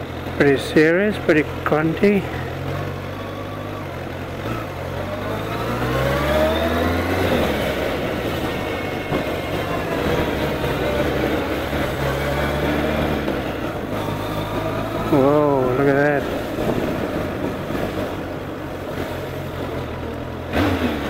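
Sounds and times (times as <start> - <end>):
motorcycle engine accelerating: 0.0 - 21.0
wind and road noise: 0.0 - 21.0.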